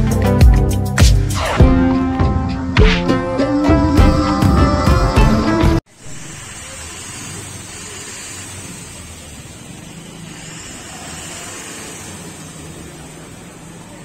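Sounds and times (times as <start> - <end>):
road noise: 1.2 - 14.0
car engine humming: 1.4 - 14.0.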